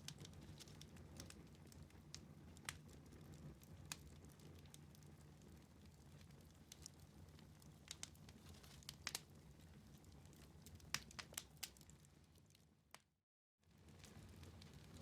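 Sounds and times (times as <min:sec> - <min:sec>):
wood fire crackling and popping: 0:00.0 - 0:13.1, 0:13.7 - 0:15.0.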